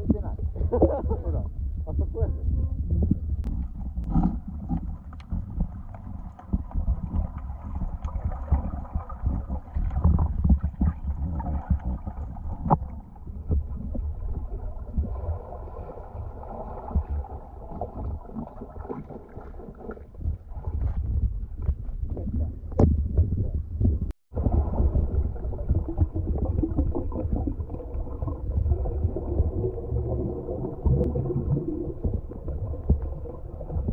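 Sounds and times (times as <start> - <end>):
clicks and bubbling: 0.0 - 33.9
underwater rumble of moving water: 0.0 - 33.9.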